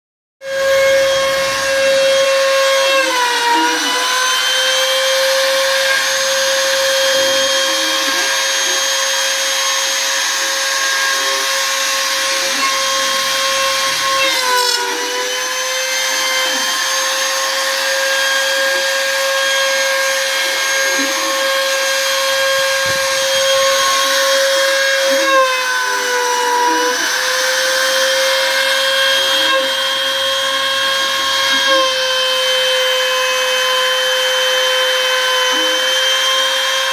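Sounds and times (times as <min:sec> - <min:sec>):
router spindle whining: 0:00.4 - 0:36.9.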